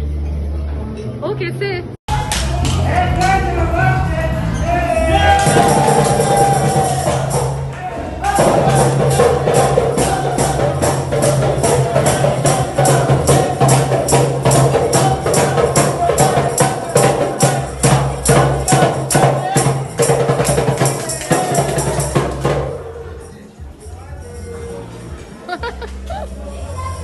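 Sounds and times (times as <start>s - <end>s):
tambourine beat: 2.1s - 24.8s
upbeat music with singing: 2.1s - 27.0s.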